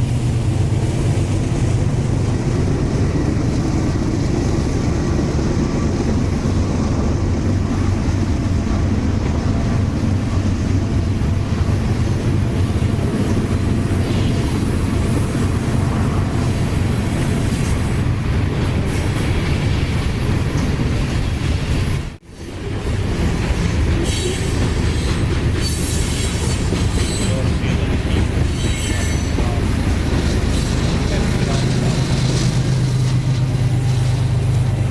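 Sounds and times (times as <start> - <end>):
train wheels running on rails: 0.0 - 34.9.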